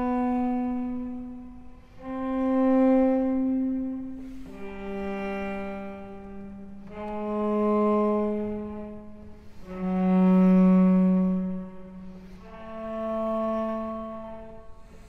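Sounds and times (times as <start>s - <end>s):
cello bowed notes: 0.0s - 15.0s.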